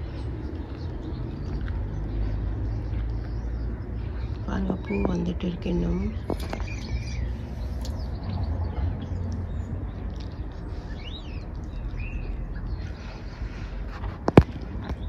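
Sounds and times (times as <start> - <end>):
bird chirping: 0.0 - 13.8
steady low rumble: 0.0 - 15.0.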